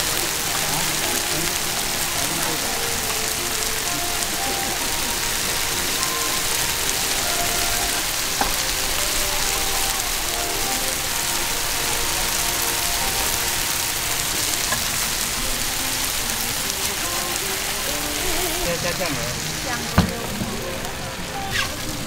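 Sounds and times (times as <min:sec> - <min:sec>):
dumplings sizzling in a pan: 0:00.0 - 0:22.0
faint voices: 0:00.0 - 0:22.0
music: 0:00.0 - 0:22.0.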